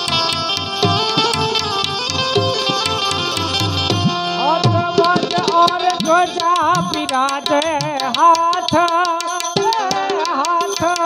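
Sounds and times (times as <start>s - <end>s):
hand drum strikes: 0.0s - 11.0s
harmonium: 0.0s - 11.0s
person singing wavering melody: 0.0s - 11.0s.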